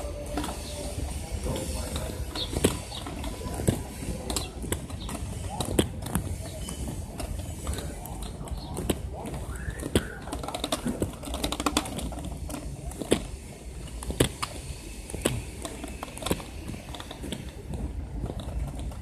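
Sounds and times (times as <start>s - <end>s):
scooter rattling clicks and knocks: 0.0s - 19.0s.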